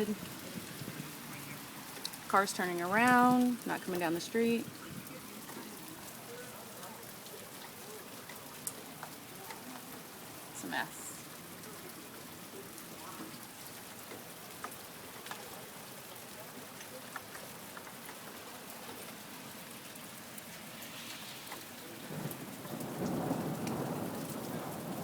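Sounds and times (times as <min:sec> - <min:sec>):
sharp drips and patters: 0:00.0 - 0:25.0
steady rain falling: 0:00.0 - 0:25.0.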